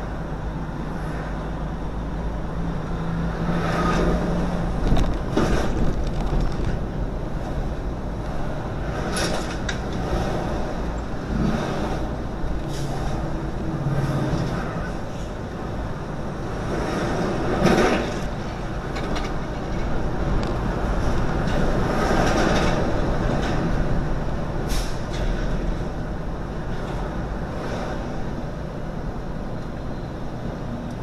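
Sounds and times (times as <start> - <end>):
truck engine and road noise: 0.0 - 31.0.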